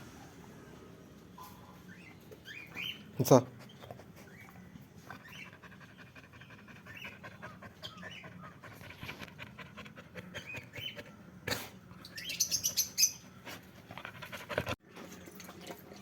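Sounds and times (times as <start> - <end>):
birds chirping: 1.3 - 14.8.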